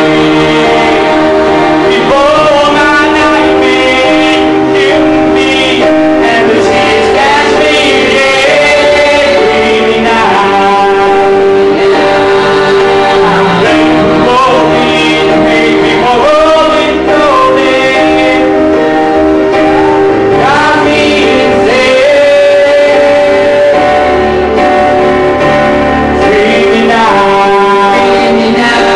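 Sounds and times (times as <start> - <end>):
instrumental accompaniment: 0.0 - 28.9
men singing into microphones: 0.0 - 28.9.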